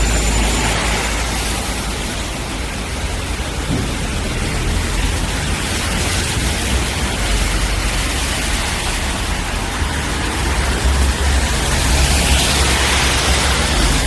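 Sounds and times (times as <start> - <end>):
steady rainfall: 0.0 - 14.0
tyres hissing on wet road: 0.0 - 14.0.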